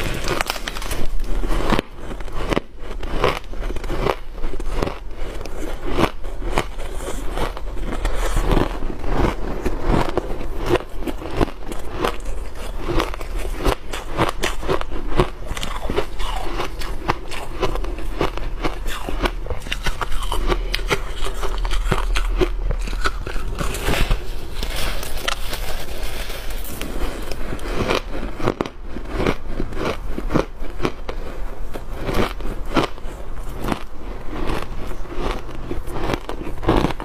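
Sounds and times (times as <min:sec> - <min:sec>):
ice crunching and crackling: 0:00.0 - 0:30.9
chewing ice: 0:00.0 - 0:37.0.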